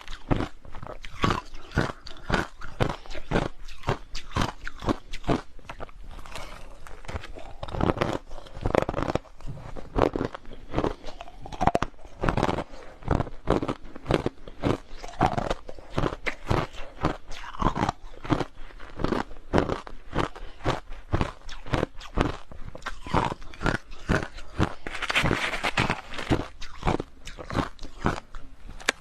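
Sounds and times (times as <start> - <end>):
person chewing crushed ice: 0.0 - 29.0.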